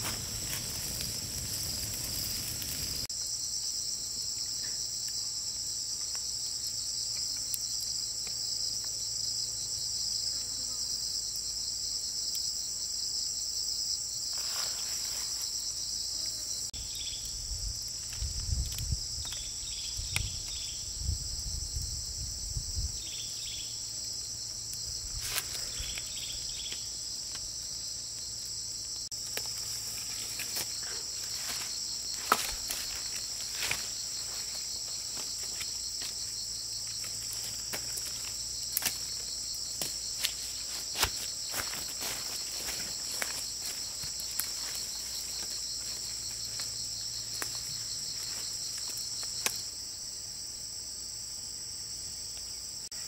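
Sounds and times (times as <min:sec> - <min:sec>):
insects chorus: 0:00.0 - 0:53.0.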